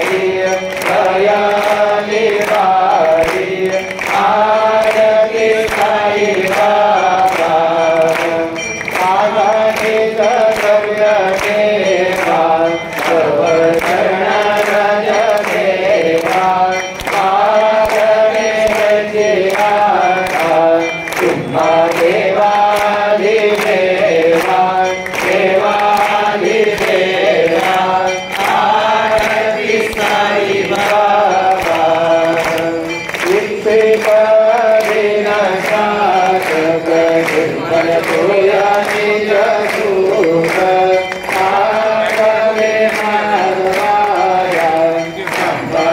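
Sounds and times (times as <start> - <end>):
group singing a chant: 0.0 - 45.9.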